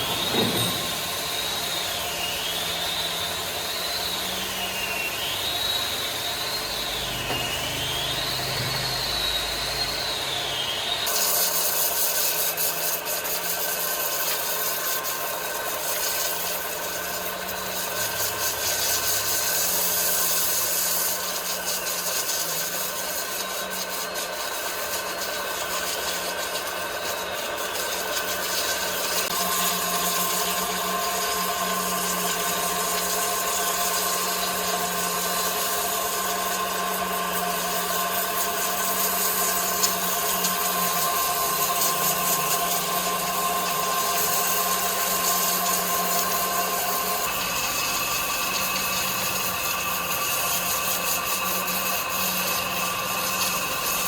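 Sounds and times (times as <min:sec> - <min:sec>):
wood being cut: 0:00.0 - 0:54.0
woodworking machine motor hum: 0:00.0 - 0:54.0.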